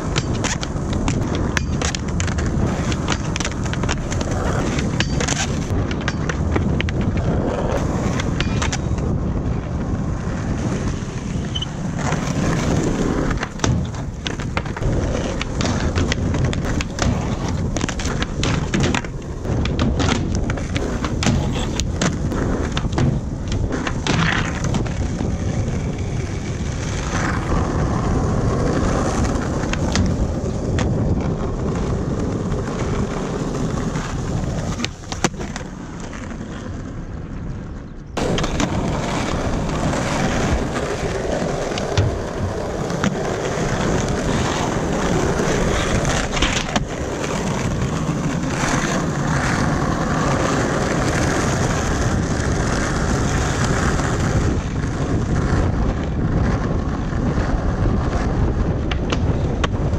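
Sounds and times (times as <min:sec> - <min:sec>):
skateboard clacks: 0:00.0 - 0:59.9
skateboard wheels rolling on concrete: 0:00.0 - 0:59.9.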